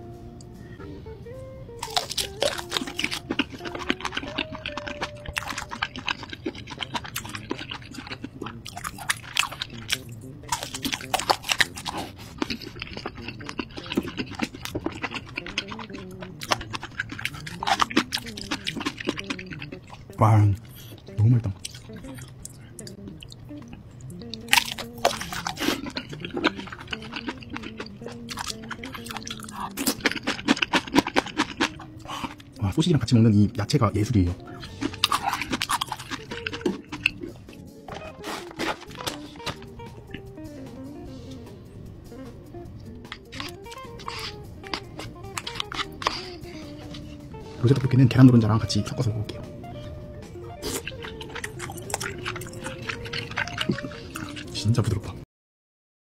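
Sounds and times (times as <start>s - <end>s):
background music: 0.0s - 55.2s
biting and chewing sausage: 1.8s - 32.6s, 34.4s - 40.3s, 42.8s - 48.0s, 50.2s - 55.2s.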